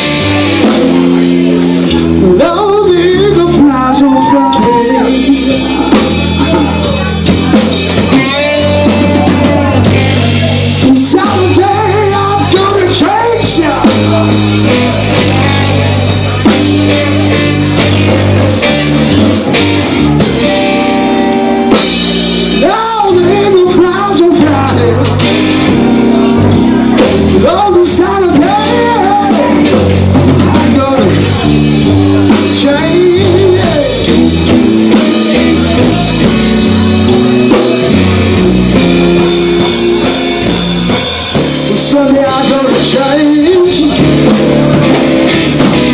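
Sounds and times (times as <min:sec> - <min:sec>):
bass guitar: 0:00.0 - 0:45.9
drum kit: 0:00.0 - 0:45.9
electric guitar: 0:00.0 - 0:45.9
rock band playing: 0:00.0 - 0:45.9.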